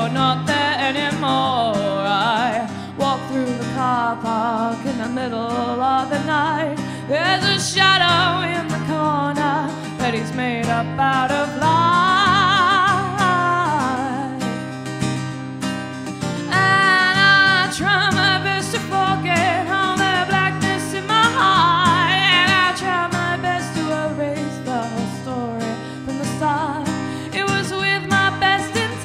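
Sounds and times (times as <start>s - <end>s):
woman singing with vibrato: 0.0s - 14.6s, 16.5s - 29.0s
acoustic guitar: 0.0s - 29.0s.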